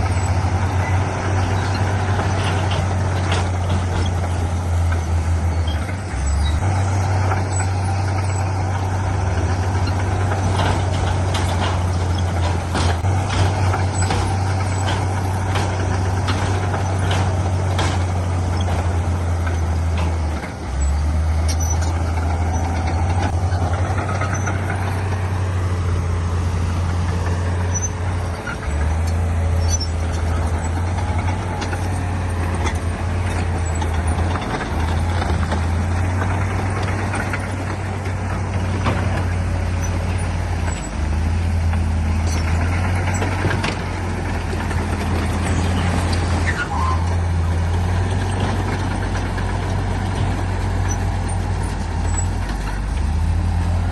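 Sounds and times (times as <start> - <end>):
diesel earthmoving machinery running: 0.0 - 53.9.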